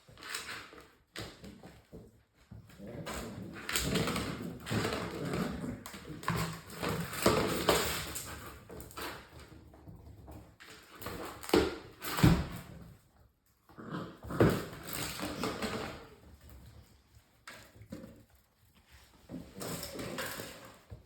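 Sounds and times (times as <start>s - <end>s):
puppies scuffling: 0.1s - 21.0s.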